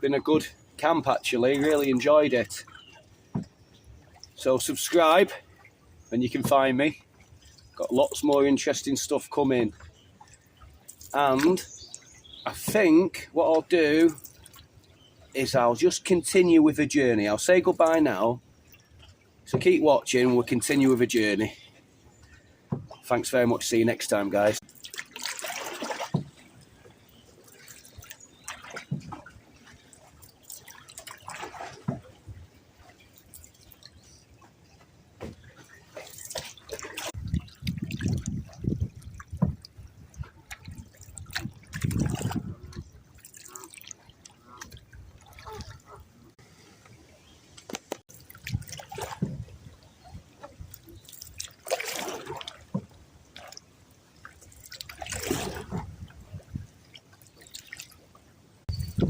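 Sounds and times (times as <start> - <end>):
paddle splashing water: 0.0 - 59.0.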